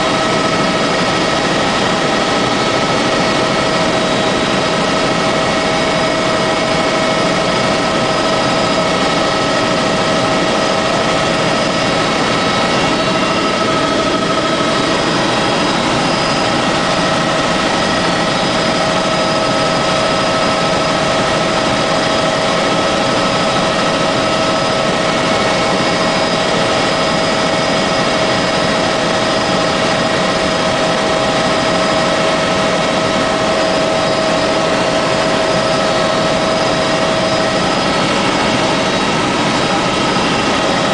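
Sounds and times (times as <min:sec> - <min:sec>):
helicopter engine and rotor: 0:00.0 - 0:40.9
high whine: 0:00.0 - 0:40.9.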